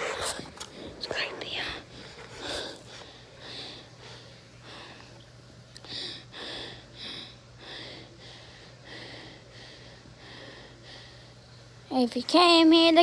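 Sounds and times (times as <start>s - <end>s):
rhythmic breathing puffs: 0.0s - 11.9s.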